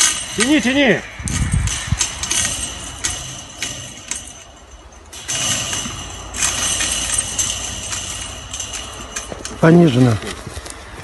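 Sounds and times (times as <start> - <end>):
low rumble: 0.0 - 9.6
metal chain clinking and rattling: 0.0 - 10.5.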